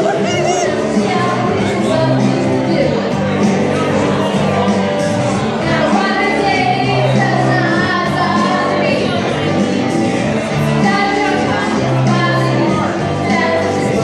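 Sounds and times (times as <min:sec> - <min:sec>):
women singing a duet: 0:00.0 - 0:03.8, 0:05.6 - 0:14.0.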